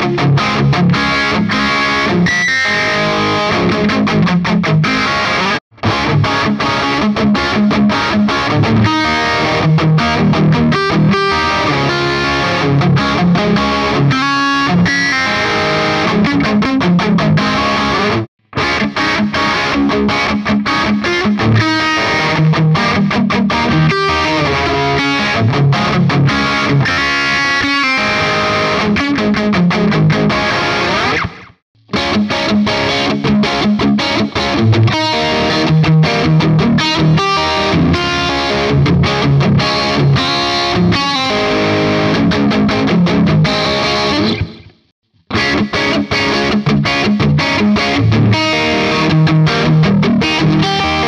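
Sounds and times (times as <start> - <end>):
distorted electric guitar riff: 0.0 - 51.0.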